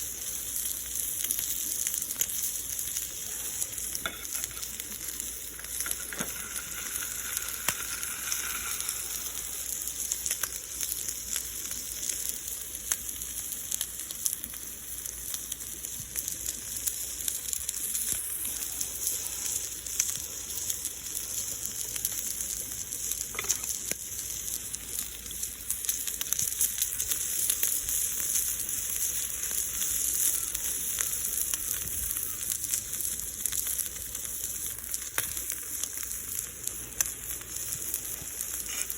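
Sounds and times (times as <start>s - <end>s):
bacon sizzling in a skillet: 0.0s - 38.9s.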